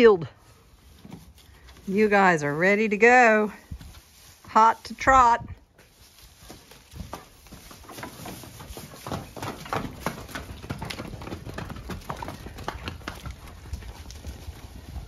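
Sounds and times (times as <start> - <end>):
hooves clip-clopping: 0.6 - 15.0.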